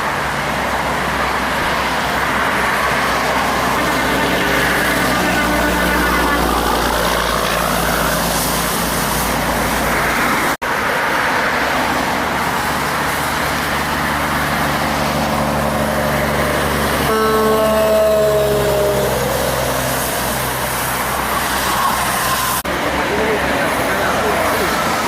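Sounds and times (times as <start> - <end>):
diesel engine hum: 0.0 - 25.0
heavy trucks passing: 0.0 - 25.0.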